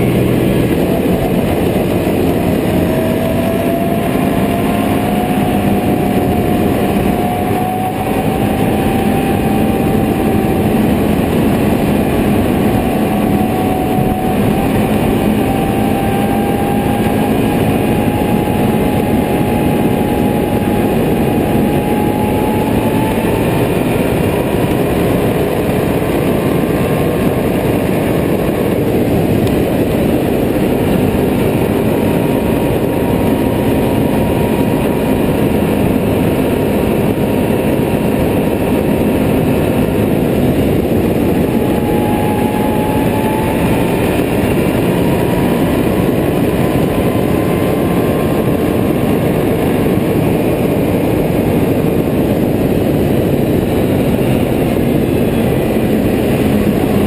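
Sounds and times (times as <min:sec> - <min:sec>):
atv engine running: 0:00.0 - 0:57.0
wind on microphone: 0:00.0 - 0:57.0.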